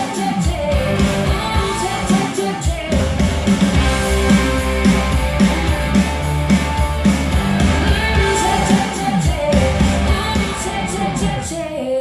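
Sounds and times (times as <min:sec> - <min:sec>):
rock song with singing: 0:00.0 - 0:12.0.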